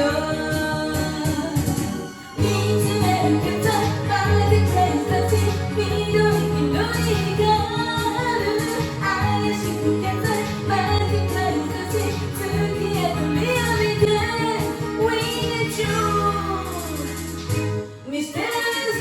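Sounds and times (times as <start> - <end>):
karaoke backing track: 0.0 - 19.0
woman singing: 0.0 - 19.0.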